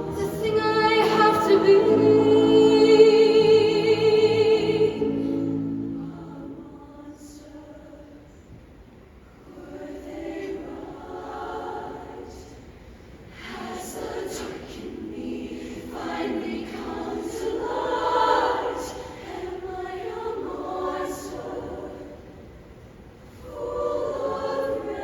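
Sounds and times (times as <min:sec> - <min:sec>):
show choir singing chords: 0:00.0 - 0:08.4, 0:09.2 - 0:25.0.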